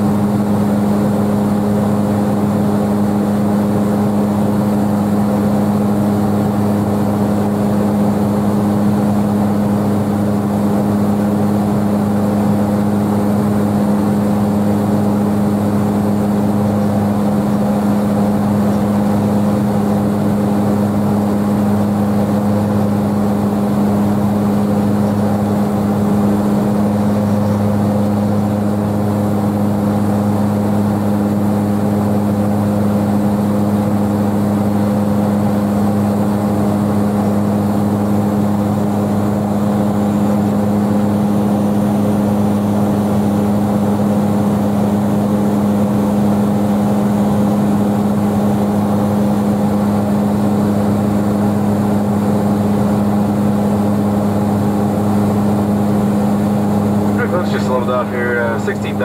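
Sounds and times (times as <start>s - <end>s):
airplane engines droning: 0.0s - 59.0s.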